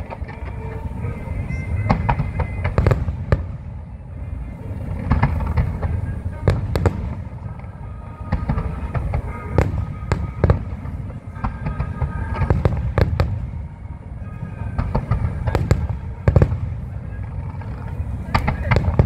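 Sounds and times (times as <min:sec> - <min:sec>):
fireworks bangs: 0:00.0 - 0:19.0
low rumble: 0:00.0 - 0:19.0.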